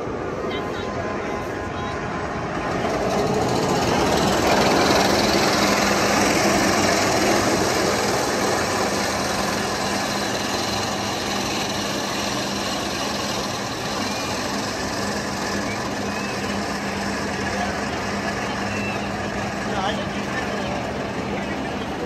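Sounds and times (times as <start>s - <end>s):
roller coaster rumbling on track: 0.0s - 22.0s
steady low hum: 0.0s - 22.0s.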